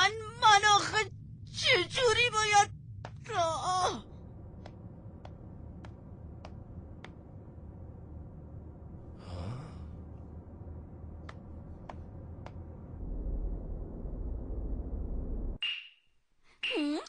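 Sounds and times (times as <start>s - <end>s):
faint low background drone: 0.0s - 15.6s.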